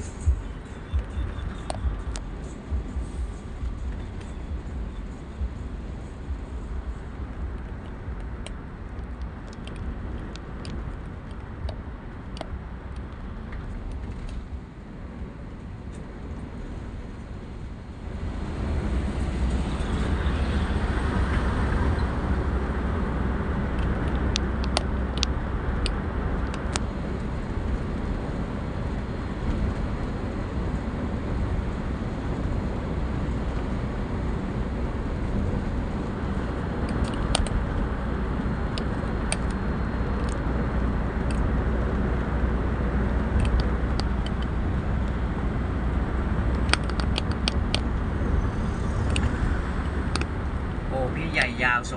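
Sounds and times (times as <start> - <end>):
road and wind rumble: 0.0 - 51.9.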